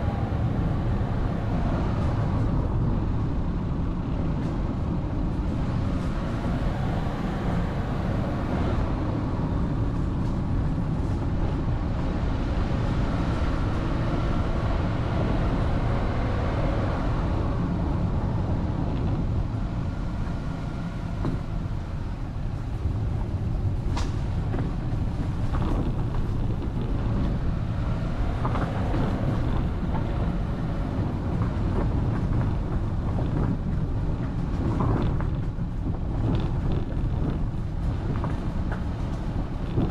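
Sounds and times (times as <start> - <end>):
vehicle driving on road: 0.0 - 39.9.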